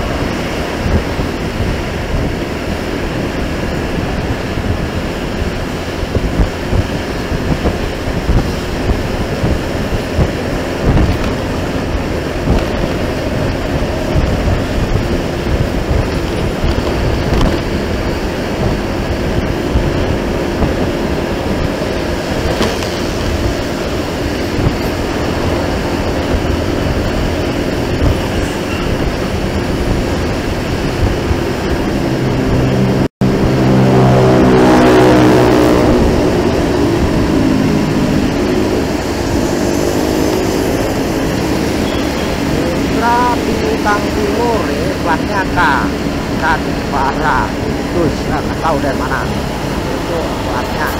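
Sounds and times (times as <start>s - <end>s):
traffic and road noise: 0.0s - 50.9s.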